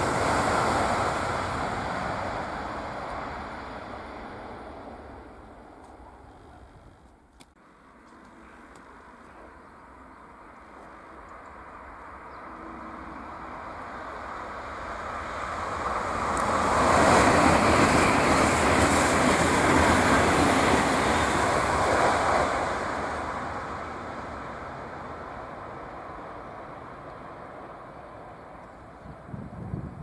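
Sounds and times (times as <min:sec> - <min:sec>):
high-speed train rushing past: 0:00.0 - 0:07.0, 0:07.8 - 0:30.0.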